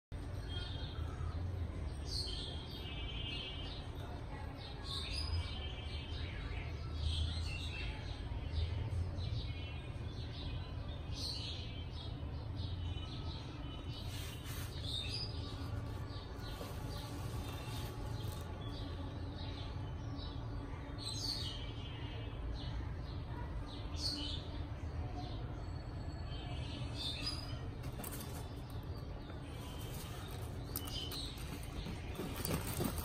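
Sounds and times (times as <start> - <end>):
birds chirping: 0.2 - 33.0.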